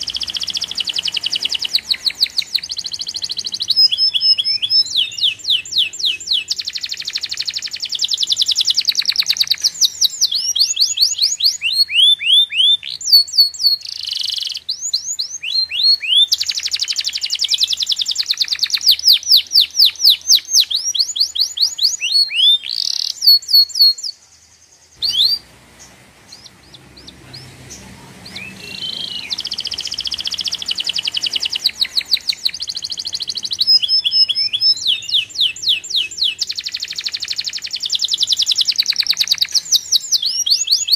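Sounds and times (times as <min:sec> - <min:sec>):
songbird trilling and whistling: 0:00.0 - 0:24.2, 0:25.0 - 0:40.9
faint low background noise: 0:00.0 - 0:40.9.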